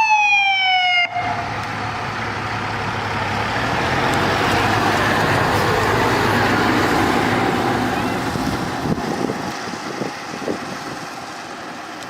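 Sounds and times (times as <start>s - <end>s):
fire truck siren: 0.0s - 11.0s
road noise: 0.0s - 12.0s
heavy vehicle engine: 1.0s - 12.0s.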